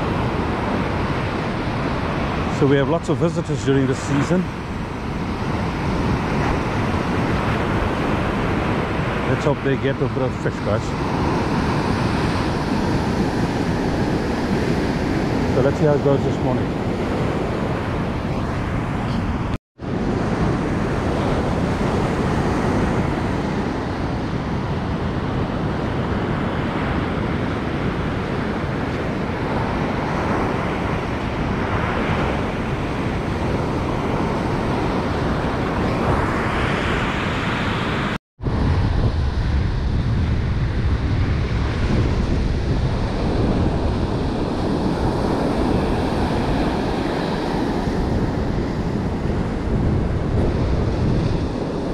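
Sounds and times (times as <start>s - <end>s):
ocean surf breaking: 0.0s - 51.9s
wind on microphone: 0.0s - 51.9s.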